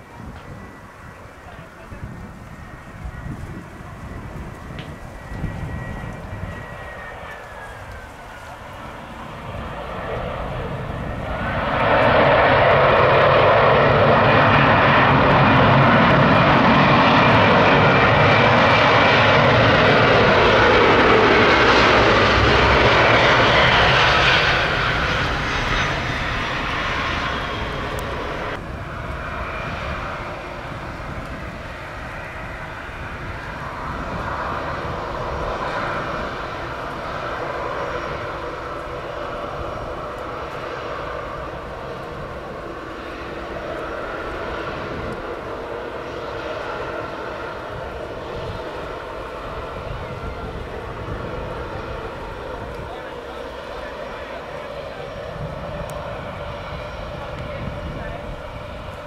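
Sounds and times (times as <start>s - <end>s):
jet engines spooling up: 0.1s - 59.0s.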